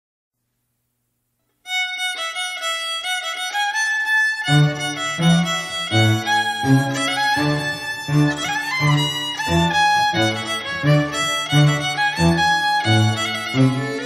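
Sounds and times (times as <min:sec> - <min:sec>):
folk fiddle melody: 0:01.7 - 0:14.0
low bowed strings accompaniment: 0:01.7 - 0:14.0.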